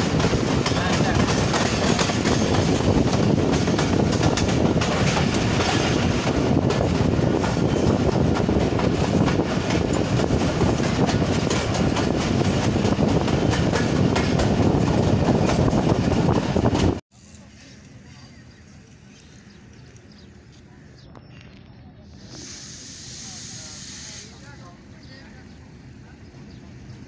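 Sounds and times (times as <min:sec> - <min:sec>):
train wheels rumbling on rail: 0:00.0 - 0:21.1, 0:22.0 - 0:27.0.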